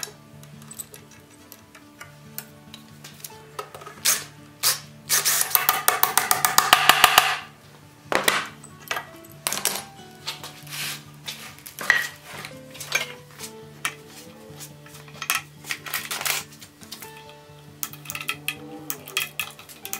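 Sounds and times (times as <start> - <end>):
metal tools clinking on iron: 0.0 - 4.4, 8.1 - 19.9
soft background music: 0.0 - 19.9.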